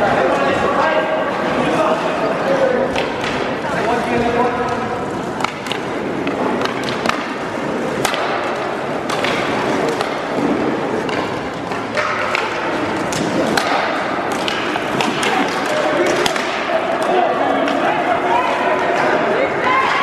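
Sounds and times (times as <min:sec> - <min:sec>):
skate wheels rumbling: 0:00.0 - 0:20.0
hockey sticks striking puck: 0:02.8 - 0:20.0.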